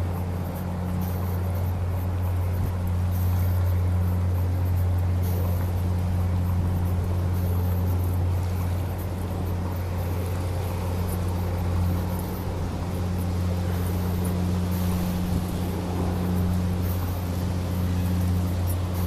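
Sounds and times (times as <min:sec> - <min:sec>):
ferry engines droning: 0:00.0 - 0:19.0.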